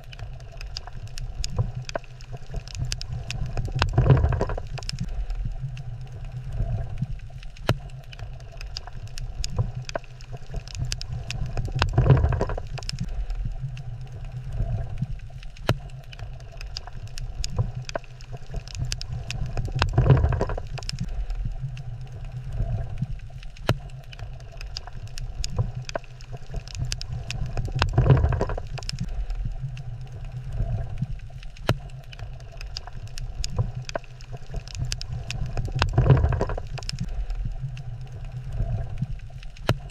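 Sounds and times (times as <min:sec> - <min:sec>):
low underwater rumble: 0:00.0 - 0:39.9
sharp clicks and crackles: 0:00.0 - 0:39.9.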